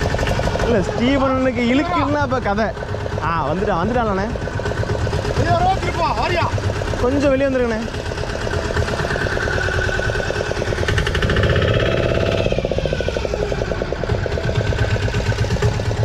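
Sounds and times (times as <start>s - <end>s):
boat engine knocking: 0.0s - 16.0s.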